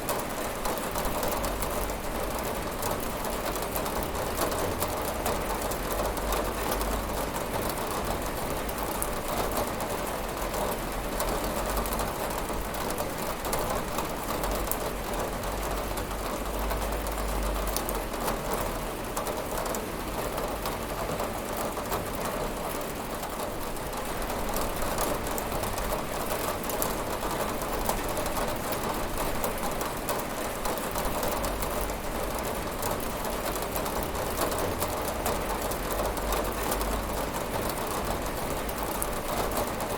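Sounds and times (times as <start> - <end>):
rain ticking on window pane: 0.0 - 39.9.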